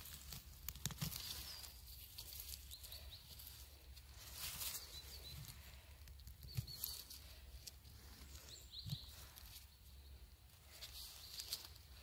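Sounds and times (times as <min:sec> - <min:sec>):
rustling of mushroom picking: 0:00.0 - 0:12.0.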